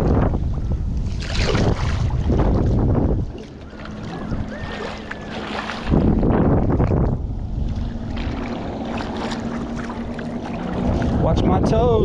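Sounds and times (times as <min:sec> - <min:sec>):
water sloshing and splashing: 0:00.0 - 0:11.9
rush of water: 0:00.0 - 0:12.0
steady low hum: 0:00.0 - 0:12.0
wind on microphone: 0:00.0 - 0:12.0.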